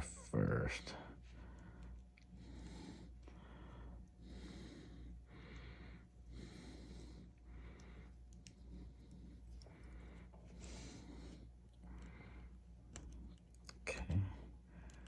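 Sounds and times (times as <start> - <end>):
faint breathing: 0.9 - 13.3, 14.1 - 15.0.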